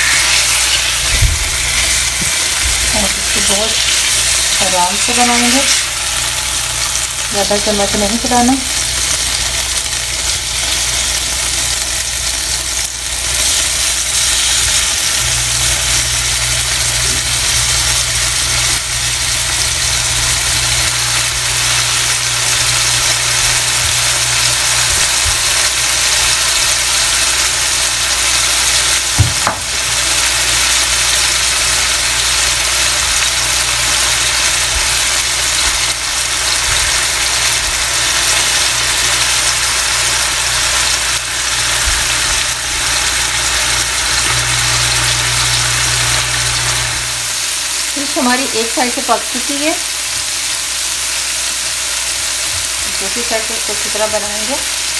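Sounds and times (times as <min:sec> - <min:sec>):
fish sizzling in oil: 0:00.0 - 0:54.9.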